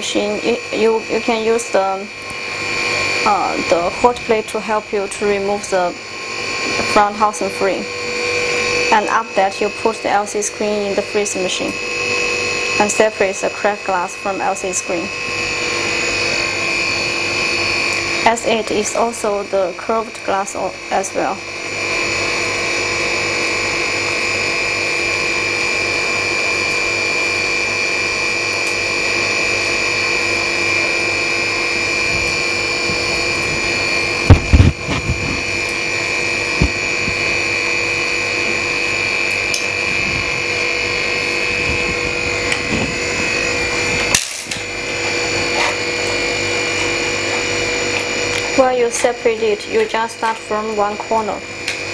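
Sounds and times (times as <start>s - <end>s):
machine running with steady whine: 0.0s - 51.9s.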